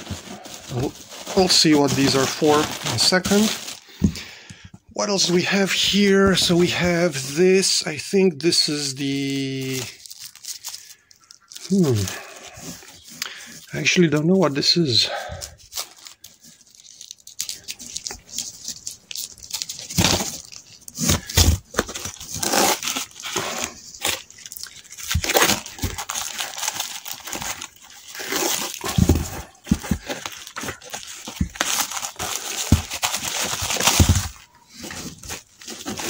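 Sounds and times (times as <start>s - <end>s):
plastic bags crinkling: 0.0s - 4.4s, 5.0s - 36.0s.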